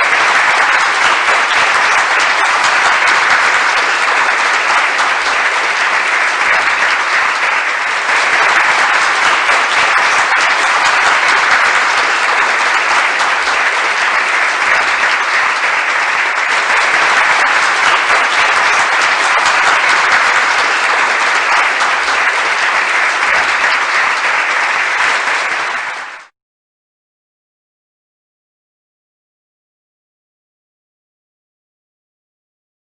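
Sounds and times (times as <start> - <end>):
applause: 0.0 - 26.4.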